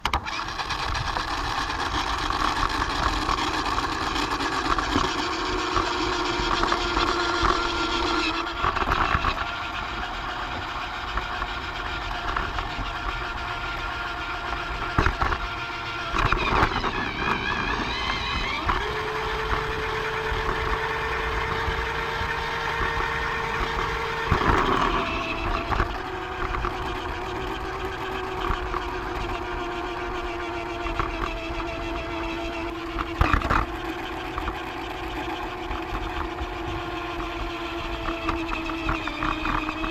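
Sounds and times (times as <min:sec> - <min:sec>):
wheels rattling on track: 0:00.0 - 0:32.0
electric motor whine: 0:00.0 - 0:39.9.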